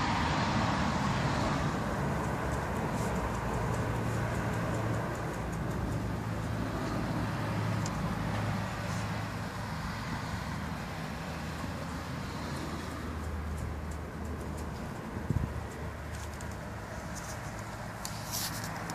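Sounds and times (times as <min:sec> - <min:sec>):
motor traffic hum: 0:00.0 - 0:18.9.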